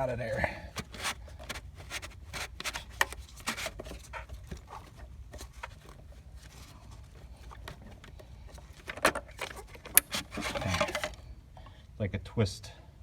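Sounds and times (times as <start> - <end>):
clicks knocks and rubbing: 0.7 - 11.2.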